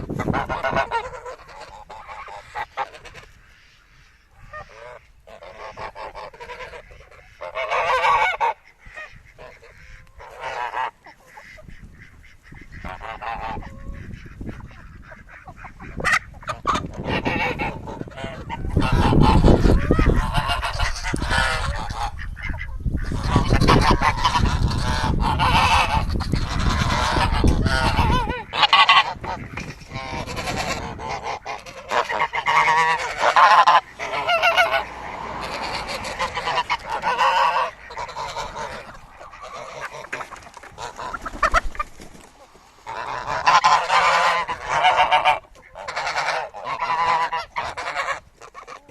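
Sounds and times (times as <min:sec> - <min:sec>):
geese honking: 0:00.0 - 0:48.9.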